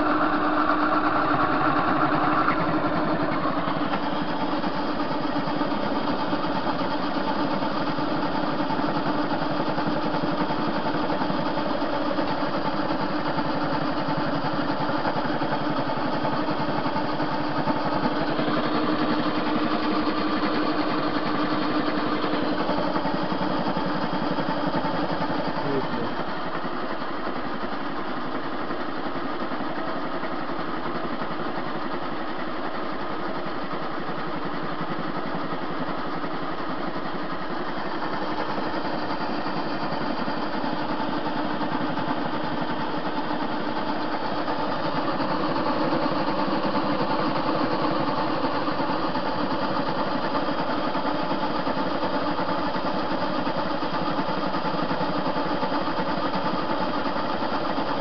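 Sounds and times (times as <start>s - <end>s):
metal lathe running: 0.0s - 58.0s.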